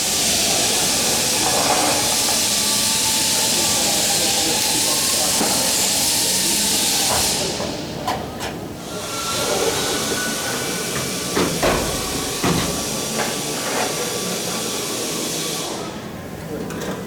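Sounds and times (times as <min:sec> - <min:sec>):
workshop hiss: 0:00.0 - 0:17.0.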